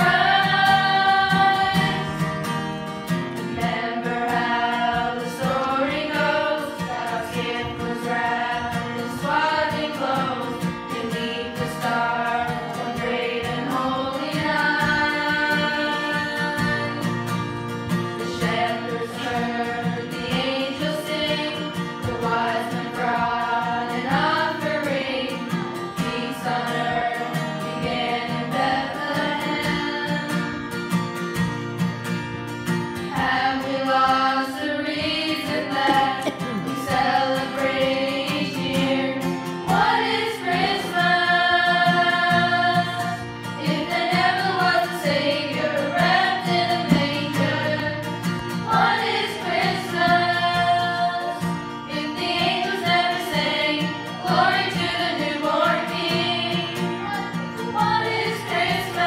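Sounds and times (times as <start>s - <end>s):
girls singing in unison: 0.0s - 2.6s, 3.4s - 17.3s, 18.1s - 30.6s, 33.1s - 59.0s
strummed acoustic guitar: 0.0s - 59.0s.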